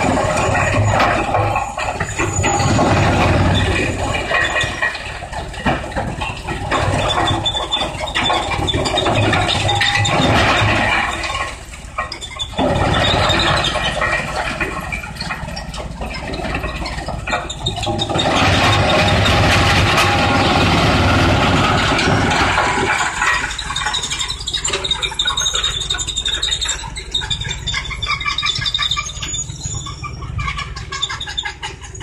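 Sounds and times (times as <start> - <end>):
high squeal: 0.0 - 5.4, 6.8 - 15.6, 16.6 - 32.0
wood crusher running: 0.0 - 26.6.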